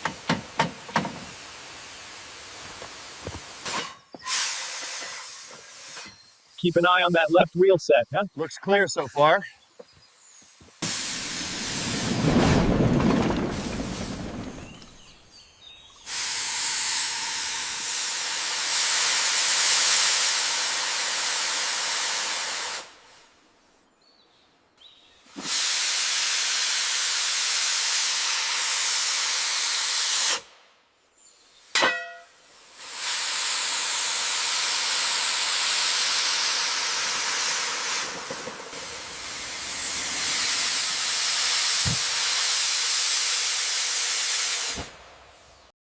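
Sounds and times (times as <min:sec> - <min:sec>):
steam locomotive venting steam: 0:00.0 - 0:09.4, 0:10.5 - 0:15.1, 0:16.0 - 0:23.4, 0:25.3 - 0:30.5, 0:32.4 - 0:45.0.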